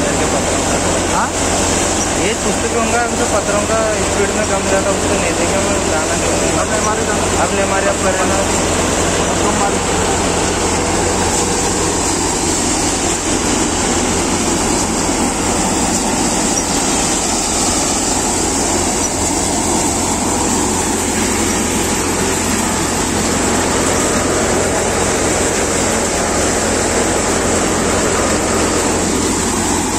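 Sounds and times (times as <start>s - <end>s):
low machine hum: 0.0s - 29.9s
thresher threshing crop: 0.0s - 29.9s.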